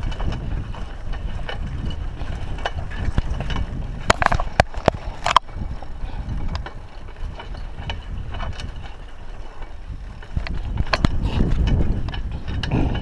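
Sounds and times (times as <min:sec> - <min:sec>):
bike tyres rumbling on dirt: 0:00.0 - 0:13.0
wind on microphone: 0:00.0 - 0:13.0.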